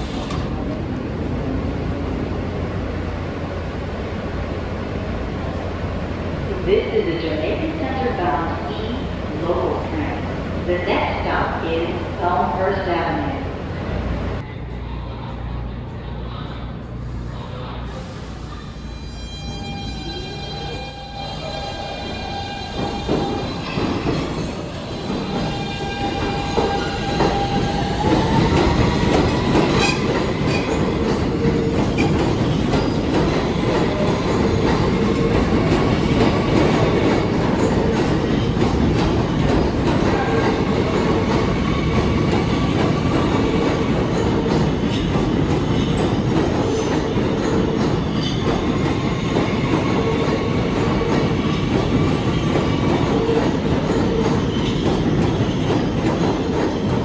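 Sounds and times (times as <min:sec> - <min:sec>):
subway train rumbling on rails: 0:00.0 - 0:57.0.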